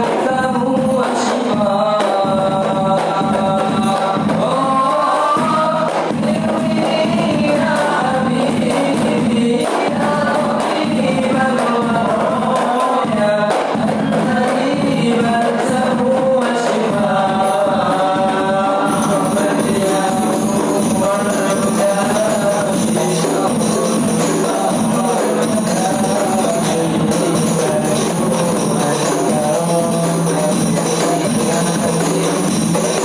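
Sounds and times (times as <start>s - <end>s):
frame drums: 0.0s - 33.0s
group singing in unison: 0.0s - 33.0s.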